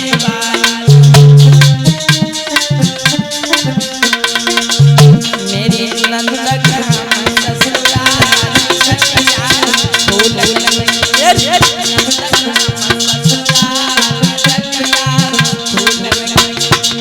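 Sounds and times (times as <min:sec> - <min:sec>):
hand drums and shaker: 0:00.0 - 0:17.0
wavering melody line: 0:01.4 - 0:17.0.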